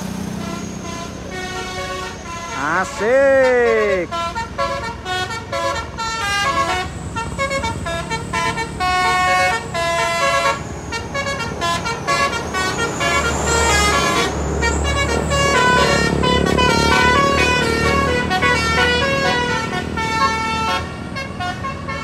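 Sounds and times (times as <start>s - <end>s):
bus engine running: 0.0s - 22.0s
multi-tone musical bus horn: 0.0s - 22.0s.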